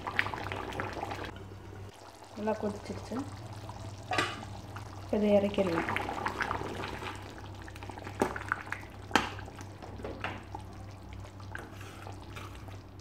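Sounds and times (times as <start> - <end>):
low steady hum: 0.0 - 13.0
thick gravy bubbling: 0.0 - 13.0.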